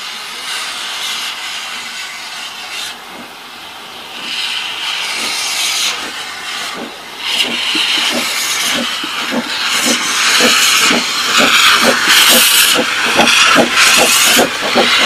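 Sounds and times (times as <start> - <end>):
faint locomotive exhaust beats: 0.0 - 15.0
steam hissing from drain cocks: 0.0 - 15.0.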